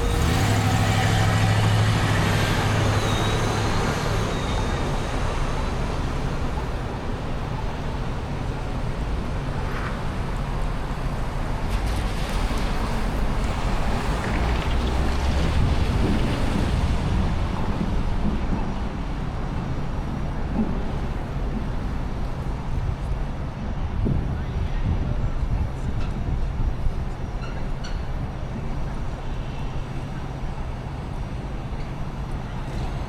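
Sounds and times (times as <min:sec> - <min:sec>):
rumble of passing vehicles: 0:00.0 - 0:33.0.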